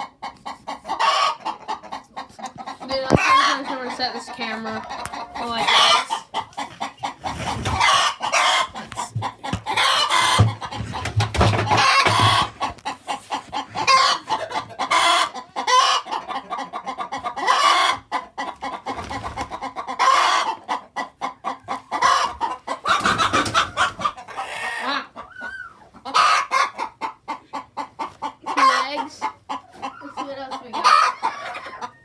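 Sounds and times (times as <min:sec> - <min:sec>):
chickens clucking: 0:00.0 - 0:32.0
chicken squawking calls: 0:00.4 - 0:10.8, 0:11.7 - 0:32.0.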